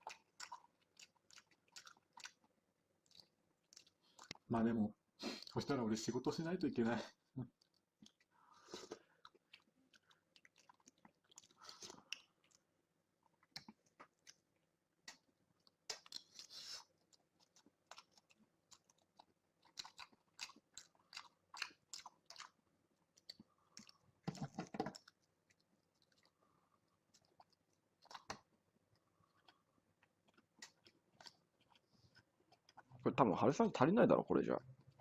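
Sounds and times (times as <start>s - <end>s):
man chewing with mouth open: 0.0s - 4.5s, 5.1s - 5.8s, 7.1s - 33.0s, 34.6s - 35.0s.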